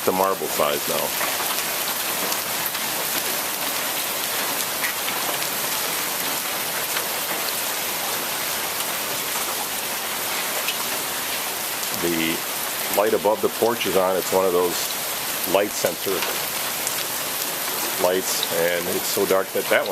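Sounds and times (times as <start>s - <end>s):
heavy rain falling: 0.0s - 19.9s
small hail falling: 0.0s - 19.9s.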